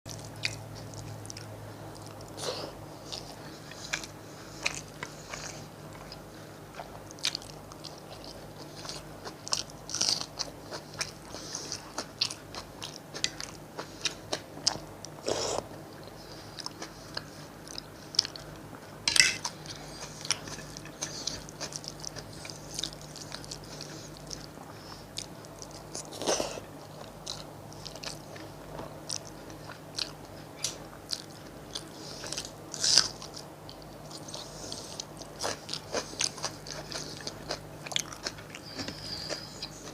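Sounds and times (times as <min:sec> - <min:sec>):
chewing with wet mouth sounds: 0:00.1 - 0:39.9
faint low hum: 0:00.1 - 0:39.9.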